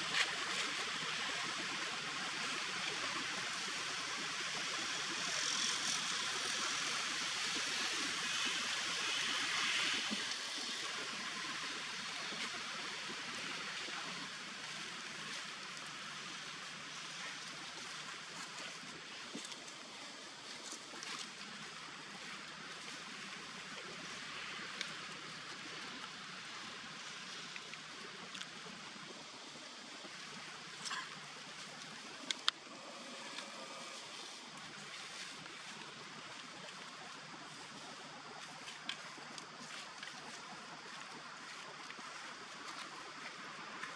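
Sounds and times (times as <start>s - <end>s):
forest ambience hiss: 0.0s - 43.9s.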